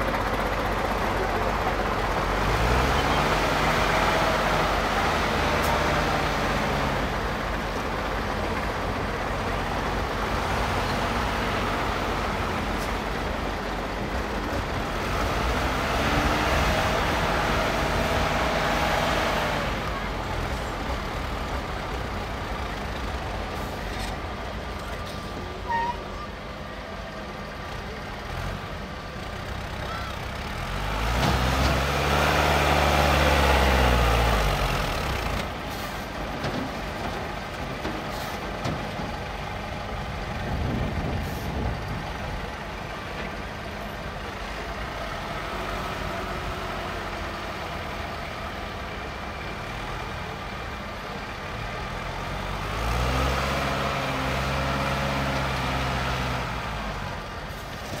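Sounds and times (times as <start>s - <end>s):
truck diesel engine revving: 0.0s - 24.6s, 27.4s - 58.0s.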